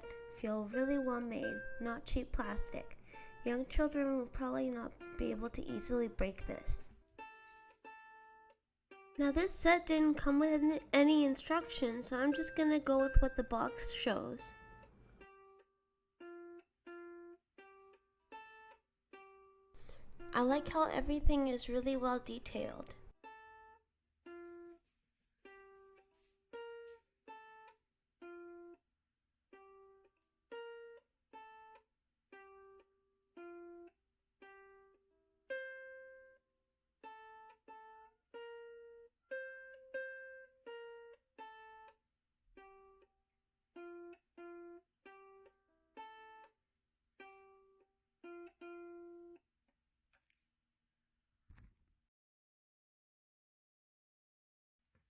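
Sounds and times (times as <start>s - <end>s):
plucked string melody: 0.0s - 28.8s, 29.5s - 36.4s, 37.0s - 43.1s, 43.8s - 46.6s, 47.2s - 49.4s.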